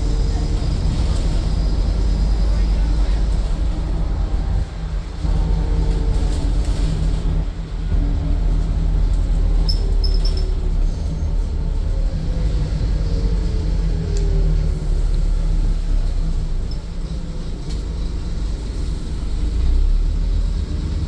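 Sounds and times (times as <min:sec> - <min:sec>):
bus diesel engine rumbling: 0:00.0 - 0:21.0.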